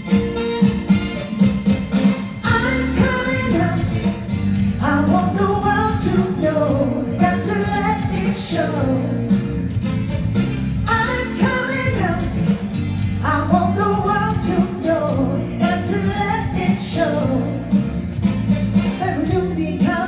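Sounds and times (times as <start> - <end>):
band playing steady beat: 0.0 - 20.0
person singing live: 2.4 - 20.0.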